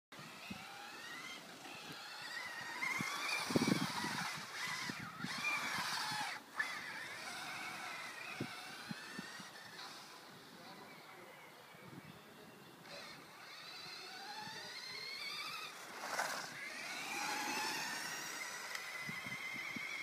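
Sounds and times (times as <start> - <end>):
electric motor whining: 0.2 - 10.8, 12.8 - 20.0.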